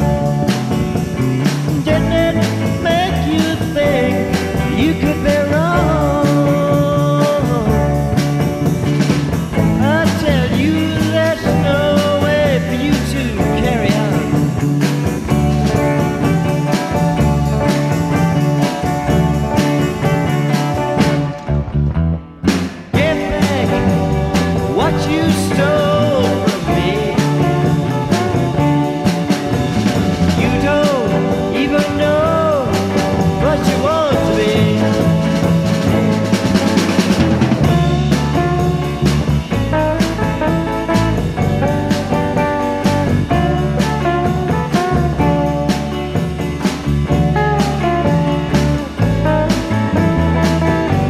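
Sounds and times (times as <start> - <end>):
rock band instrumental: 0.0 - 51.0
wavering lead guitar line: 0.0 - 51.0.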